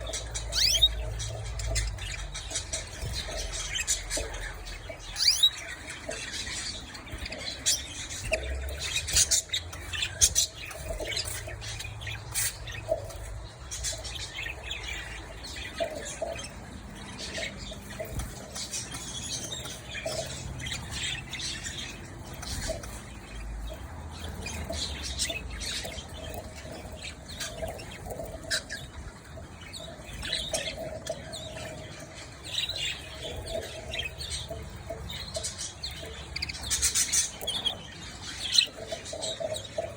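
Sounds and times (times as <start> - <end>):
canaries chirping and squawking: 0.0 - 39.9.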